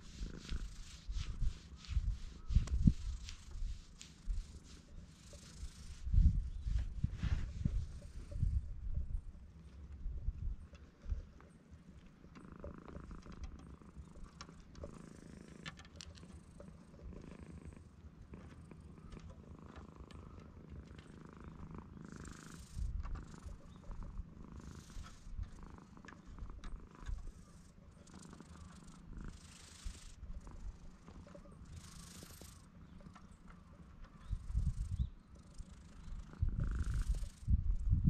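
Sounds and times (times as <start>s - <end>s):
cat purring: 0.0s - 8.9s, 10.5s - 38.0s.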